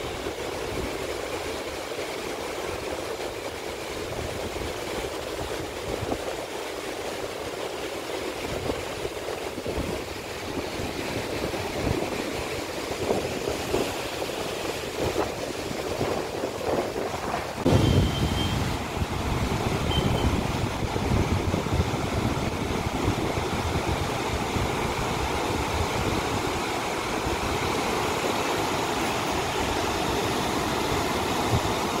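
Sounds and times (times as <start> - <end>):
river rushing over boulders: 0.0 - 32.0.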